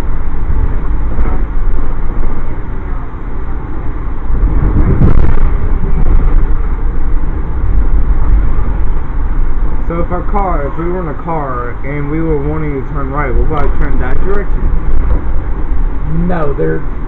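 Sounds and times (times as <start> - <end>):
passenger train rumble from on board: 0.0 - 17.0.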